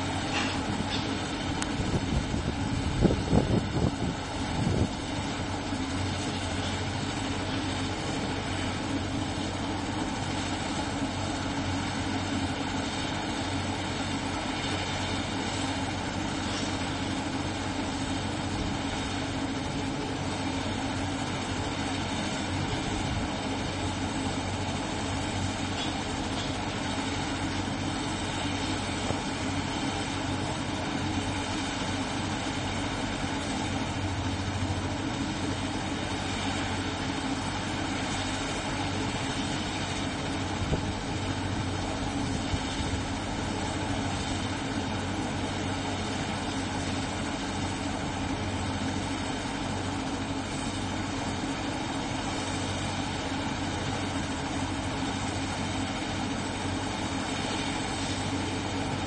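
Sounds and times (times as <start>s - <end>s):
helicopter turbine idling: 0.0s - 59.0s.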